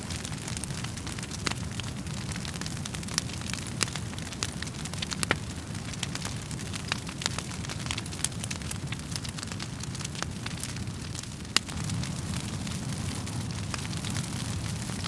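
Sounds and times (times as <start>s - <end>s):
fire popping and snapping: 0.0s - 15.0s
low rumble of flames: 0.0s - 15.0s.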